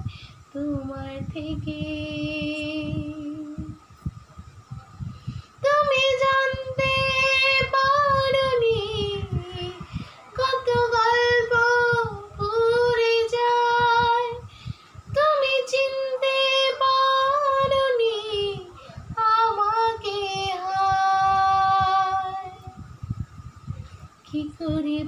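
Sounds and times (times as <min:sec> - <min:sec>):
woman singing unaccompanied: 0:00.0 - 0:03.8, 0:05.6 - 0:22.8, 0:24.3 - 0:25.0.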